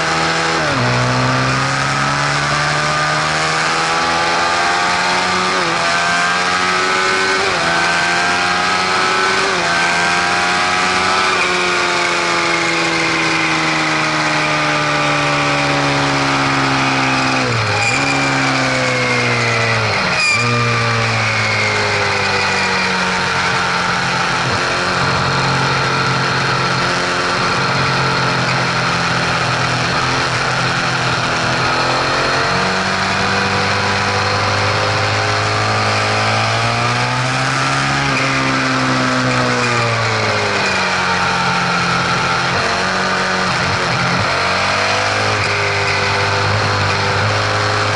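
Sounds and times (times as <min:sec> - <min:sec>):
car running: 0:00.0 - 0:47.9.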